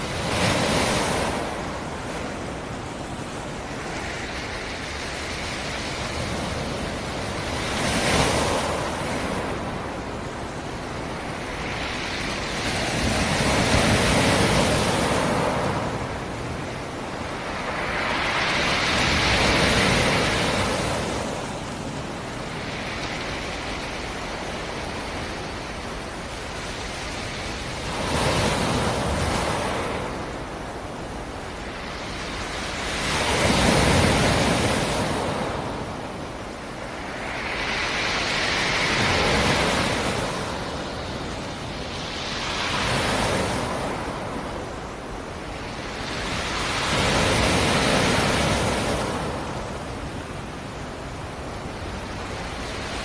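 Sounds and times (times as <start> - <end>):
waves breaking on shore: 0.0 - 53.0.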